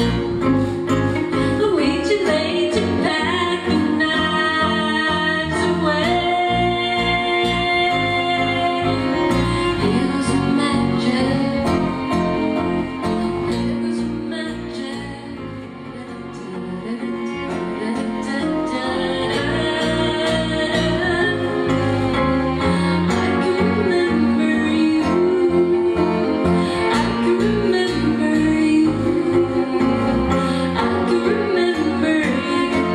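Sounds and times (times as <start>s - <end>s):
acoustic guitar: 0.0s - 32.9s
violin bowing: 0.0s - 32.9s
woman singing: 0.0s - 32.9s.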